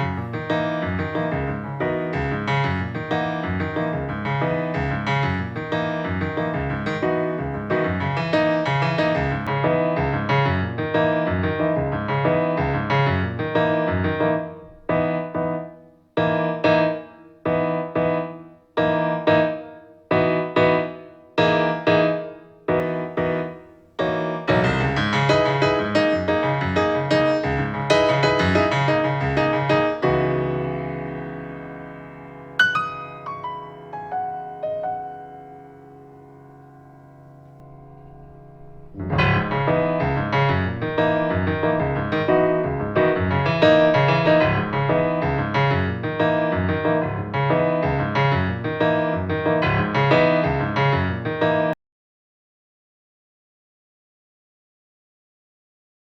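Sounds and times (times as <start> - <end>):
jazz piano music from speaker: 0.0 - 51.8.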